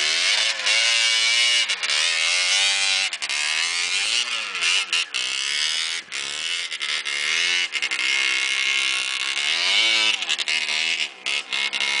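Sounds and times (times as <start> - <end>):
two-stroke motorbike engine revving: 0.0 - 12.0.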